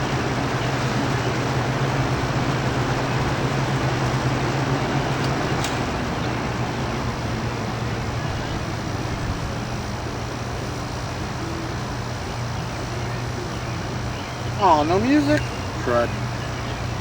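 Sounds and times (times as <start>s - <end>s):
electric fans running: 0.0s - 17.0s.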